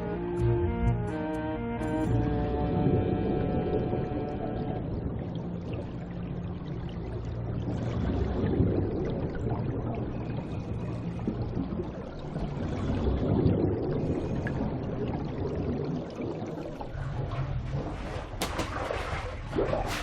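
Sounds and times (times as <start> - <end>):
water rushing and trickling: 1.6 - 20.0.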